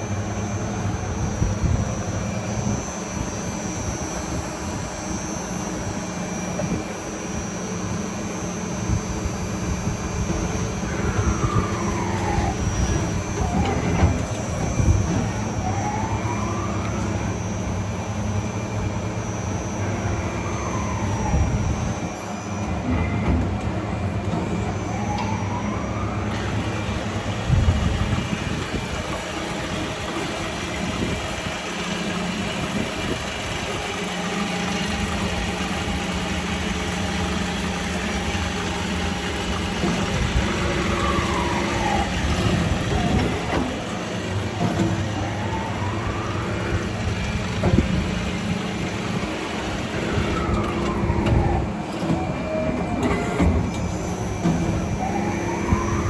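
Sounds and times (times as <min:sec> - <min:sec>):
machine motor hum: 0:00.0 - 0:56.0
spindle whines rising and falling: 0:00.0 - 0:56.0.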